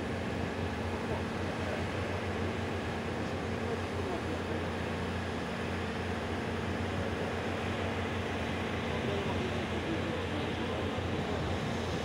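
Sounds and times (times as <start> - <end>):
distant voices murmur: 0.0 - 12.0
heavy machinery engine hum: 0.0 - 12.0
traffic: 0.0 - 12.0.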